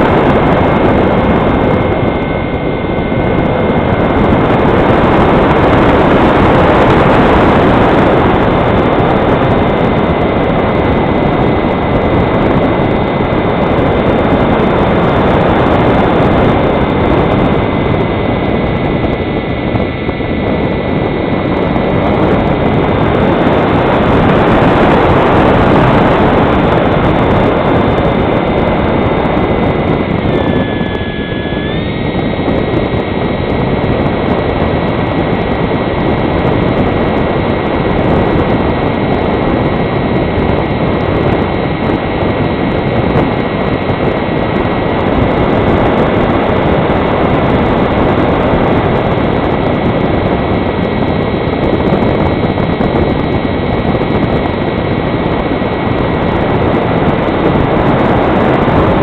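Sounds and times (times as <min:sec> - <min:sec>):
airflow rush: 0:00.0 - 0:59.0
electric motor whine: 0:00.0 - 0:59.0.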